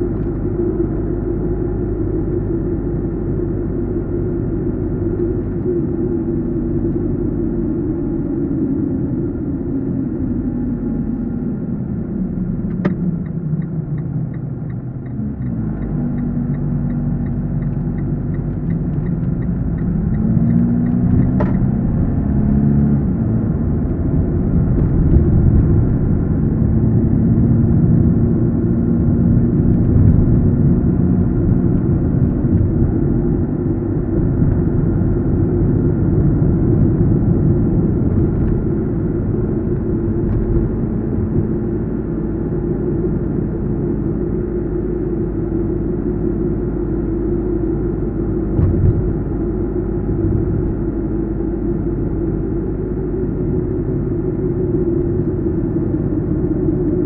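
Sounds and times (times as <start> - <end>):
car engine: 0.0 - 57.0
road rumble: 0.0 - 57.0.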